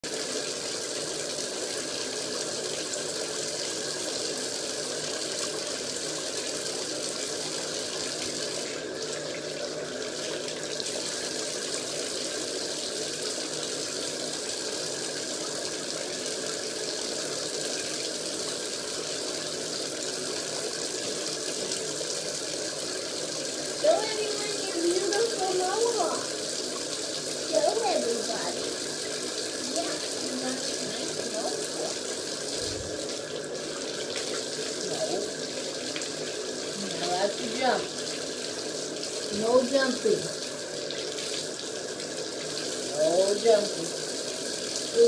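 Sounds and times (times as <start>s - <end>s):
tap water running into bathtub: 0.0s - 45.0s.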